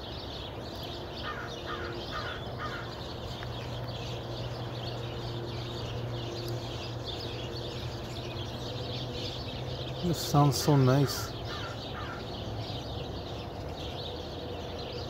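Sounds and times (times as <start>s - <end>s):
many birds chirping: 0.0s - 15.0s
steady low hum: 0.0s - 15.0s.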